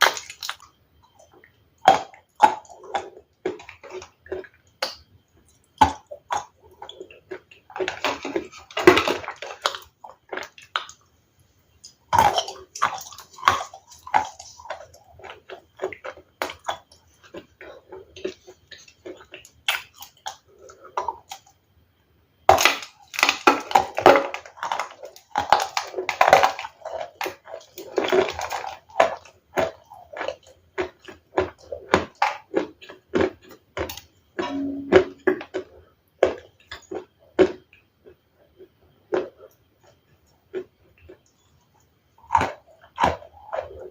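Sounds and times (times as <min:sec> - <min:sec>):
ice being chewed: 0:00.0 - 0:11.1, 0:11.8 - 0:21.6, 0:22.5 - 0:43.9.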